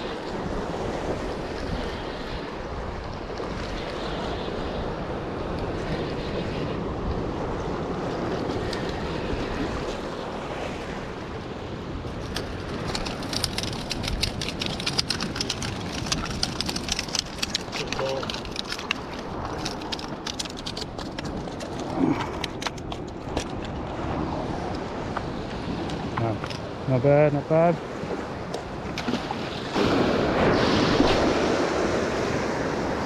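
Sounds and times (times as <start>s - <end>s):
surf washing against rocks: 0.0s - 33.0s
wind on microphone: 0.0s - 33.0s.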